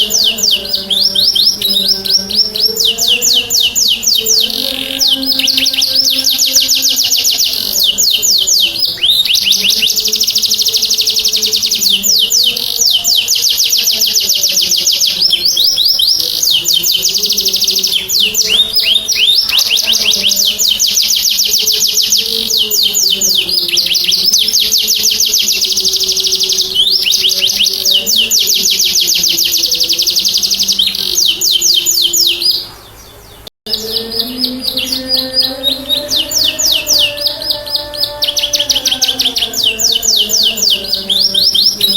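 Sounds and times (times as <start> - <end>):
canary singing rapid trills: 0.0 - 41.9.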